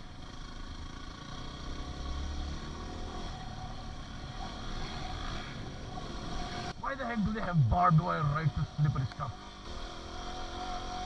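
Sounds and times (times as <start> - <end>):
dirt bike engine revving: 1.0 - 11.0.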